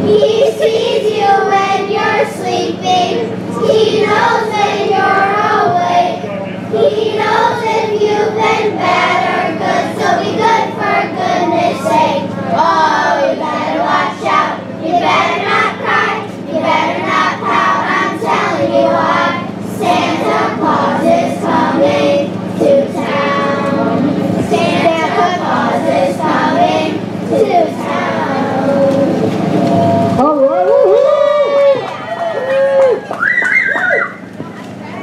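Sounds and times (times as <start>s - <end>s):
children's choir singing: 0.0s - 30.2s
low hum: 0.0s - 34.4s.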